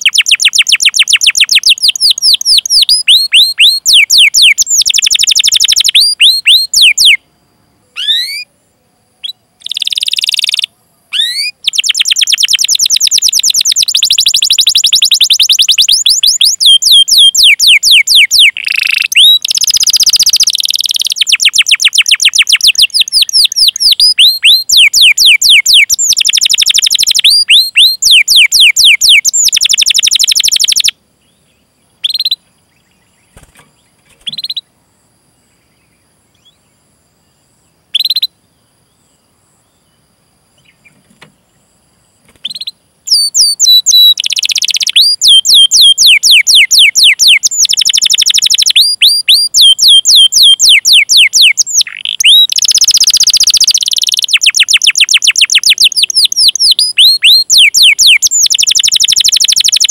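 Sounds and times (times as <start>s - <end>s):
canary singing trills: 0.0s - 8.5s, 9.2s - 34.8s, 37.4s - 41.6s, 42.2s - 59.9s.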